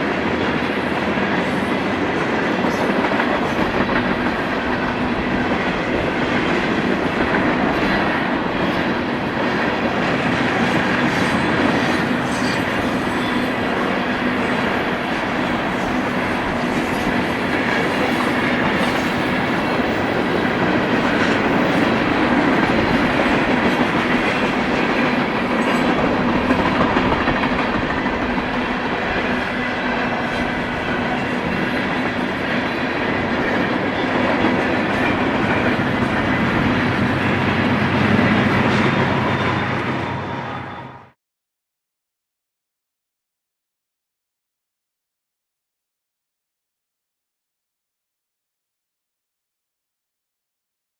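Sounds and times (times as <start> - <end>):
freight train rumbling past: 0.0 - 41.2.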